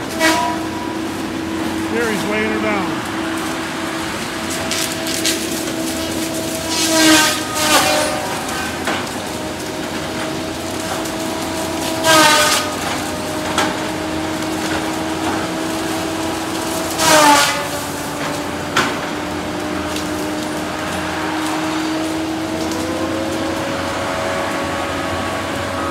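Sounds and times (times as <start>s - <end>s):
heavy machine engine droning: 0.0s - 25.9s.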